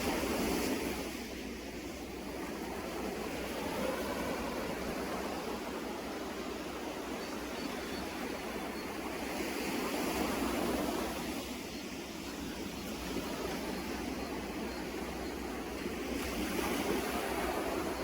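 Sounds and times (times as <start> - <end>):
sea waves washing onto shore: 0.0 - 18.0.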